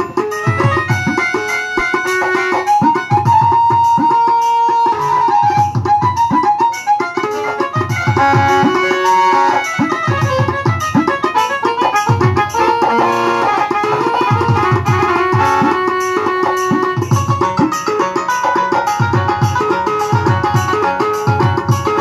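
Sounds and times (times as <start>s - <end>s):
drum strokes dropping in pitch: 0.0s - 22.0s
keyboard folk melody: 0.0s - 22.0s.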